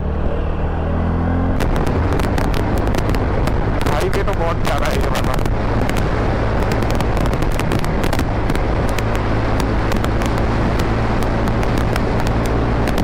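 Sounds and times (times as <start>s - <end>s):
road and wind noise: 0.0s - 13.0s
microphone crackles: 1.6s - 13.0s.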